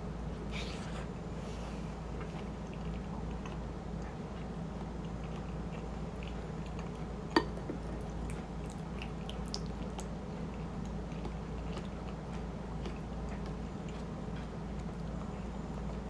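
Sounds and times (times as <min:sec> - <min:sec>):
steady low hum: 0:00.0 - 0:16.0
person chewing food: 0:02.0 - 0:16.0.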